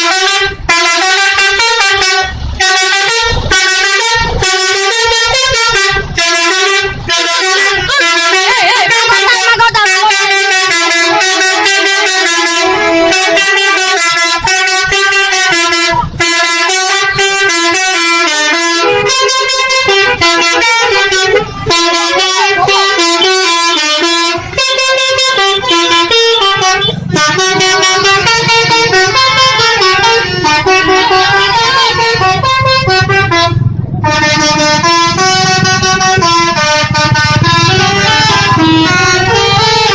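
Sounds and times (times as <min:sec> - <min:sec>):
musical air horns playing a tune: 0:00.0 - 0:39.9.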